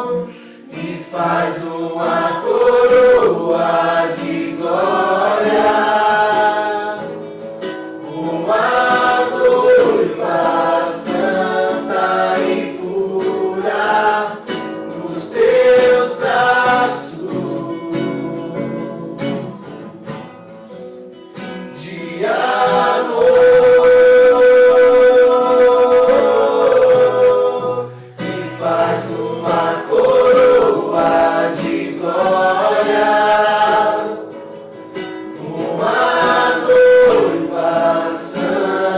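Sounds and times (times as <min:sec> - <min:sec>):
group singing worship song: 0:00.0 - 0:20.3, 0:21.5 - 0:38.9
acoustic guitar: 0:00.0 - 0:38.9.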